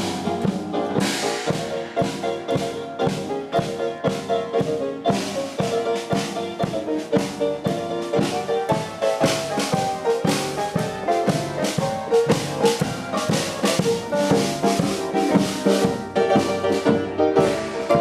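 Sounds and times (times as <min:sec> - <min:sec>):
drum kit beat: 0:00.0 - 0:18.0
keyboard: 0:00.0 - 0:18.0
upright double bass: 0:00.0 - 0:18.0.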